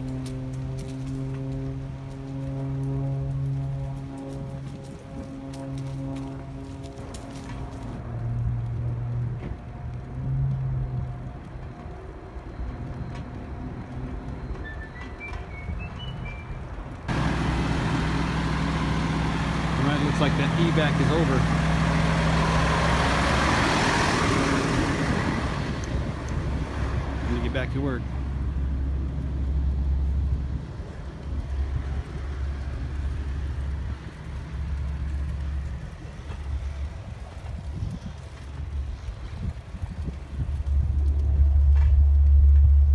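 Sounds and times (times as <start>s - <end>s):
vehicle engine hum: 0.0s - 42.9s
wind buffeting microphone: 0.0s - 42.9s.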